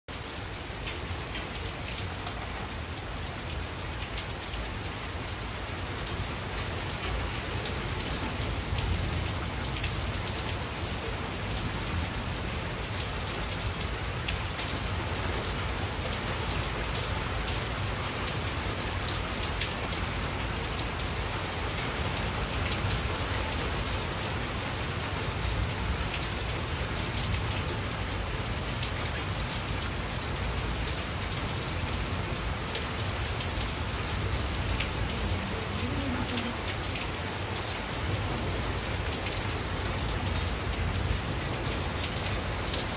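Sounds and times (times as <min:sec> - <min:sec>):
steady rain falling: 0:00.1 - 0:42.9.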